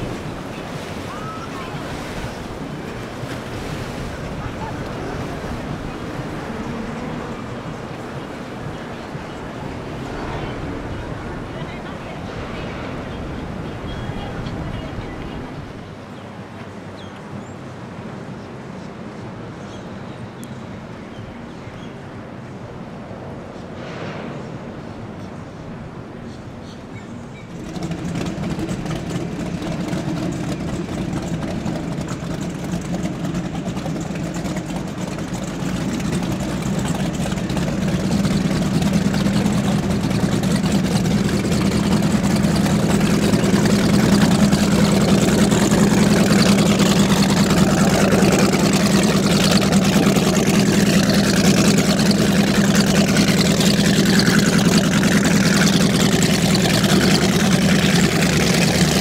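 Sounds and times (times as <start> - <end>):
powerboat engines droning: 0.0 - 59.0.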